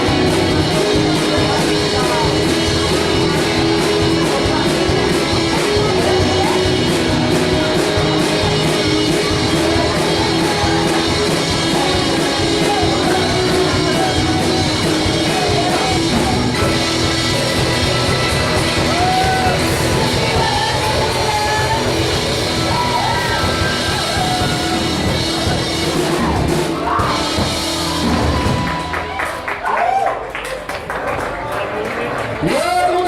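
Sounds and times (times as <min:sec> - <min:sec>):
person singing: 0:00.0 - 0:28.7
drum beat: 0:00.0 - 0:29.4
rock band playing: 0:00.0 - 0:29.7.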